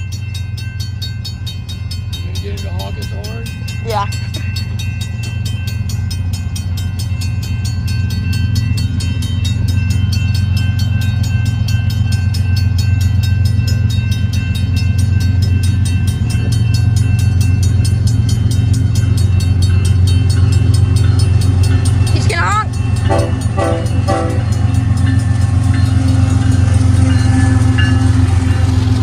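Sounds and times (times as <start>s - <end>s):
crossing bell ringing: 0.0s - 29.0s
freight train rumble: 0.0s - 29.0s.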